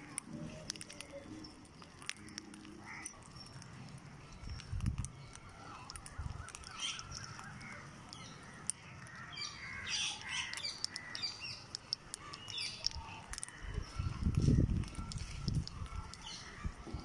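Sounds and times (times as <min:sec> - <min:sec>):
small sharp clicks: 0:00.0 - 0:16.6
birds chirping: 0:00.0 - 0:17.0.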